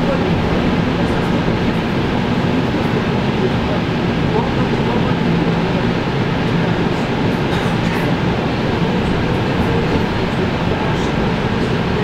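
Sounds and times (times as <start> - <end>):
train wheels on track: 0.0 - 12.0.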